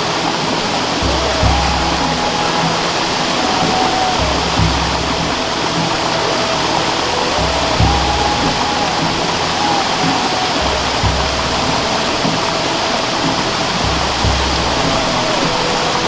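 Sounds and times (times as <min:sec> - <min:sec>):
flowing water rushing: 0:00.0 - 0:16.0
slow meditation music: 0:00.0 - 0:16.0.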